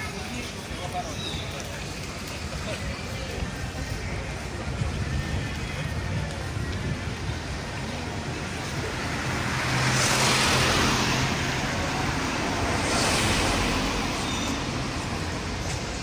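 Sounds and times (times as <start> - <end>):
cars passing: 0.0 - 16.0
traffic hum: 0.0 - 16.0.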